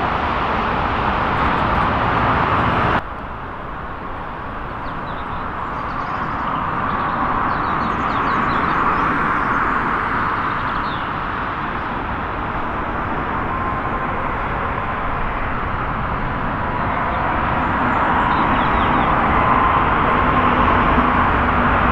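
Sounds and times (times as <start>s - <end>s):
jet engines rushing: 0.0s - 21.9s.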